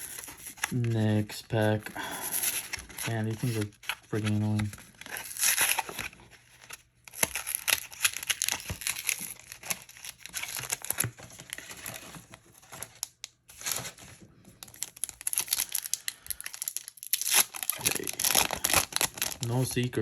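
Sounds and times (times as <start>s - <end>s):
foil wrapper crinkling and tearing: 1.9s - 19.9s.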